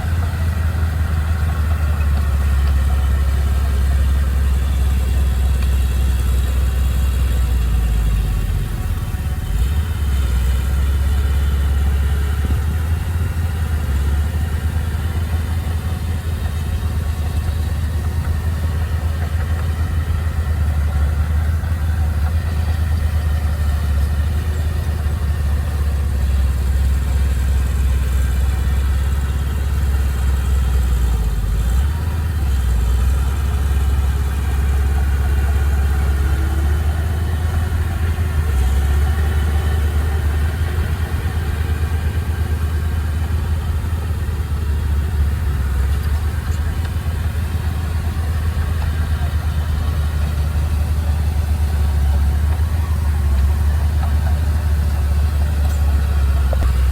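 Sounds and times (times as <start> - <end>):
heavy machinery engine drone: 0.0 - 56.9.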